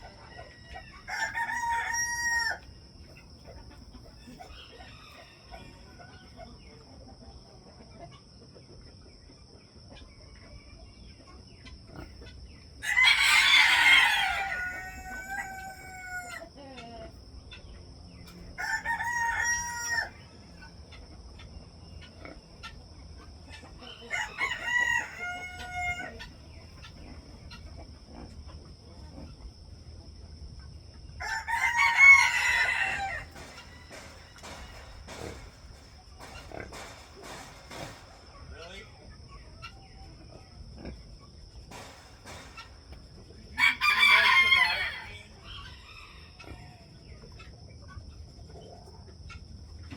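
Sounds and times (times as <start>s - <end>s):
roosters crowing: 0.0s - 6.7s, 12.7s - 17.2s, 18.2s - 47.3s.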